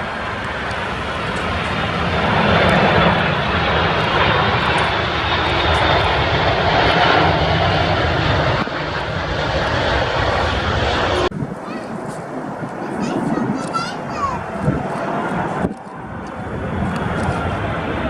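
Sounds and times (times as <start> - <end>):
jet airliner engine rush: 0.0 - 18.0.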